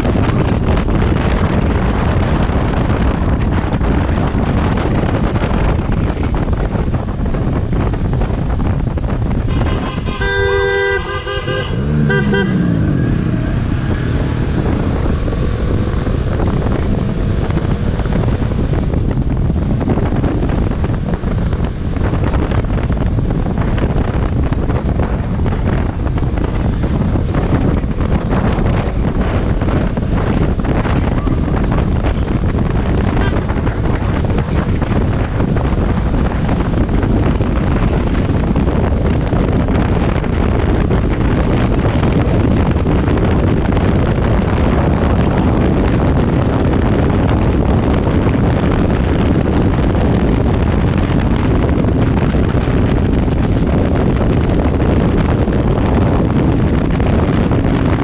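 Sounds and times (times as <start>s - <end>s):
motorcycle running: 0.0s - 58.0s
wind buffeting microphone: 0.0s - 58.0s.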